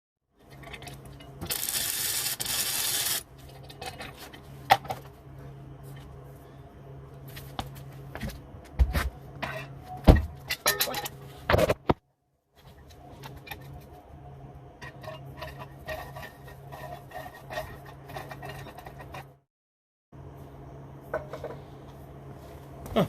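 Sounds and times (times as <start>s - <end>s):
steady low hum: 0.4s - 19.4s, 20.2s - 23.0s.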